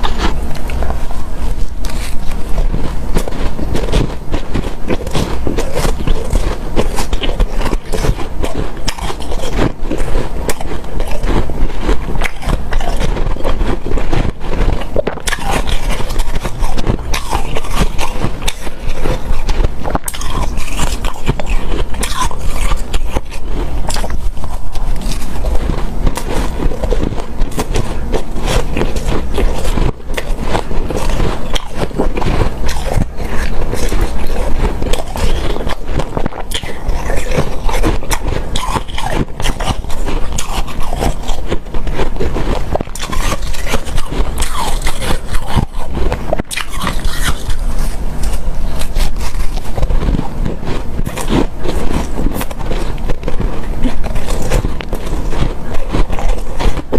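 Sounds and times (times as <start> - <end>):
chewing crunchy ice: 0.0 - 56.9.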